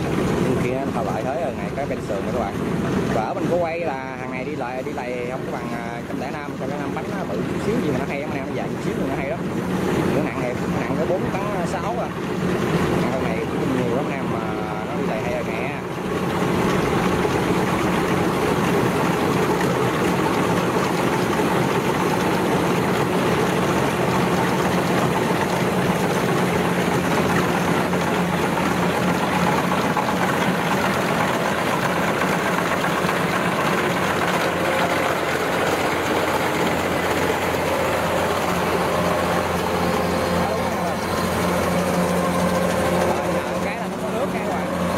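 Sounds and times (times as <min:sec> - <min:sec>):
harvester diesel engine droning: 0:00.0 - 0:44.9.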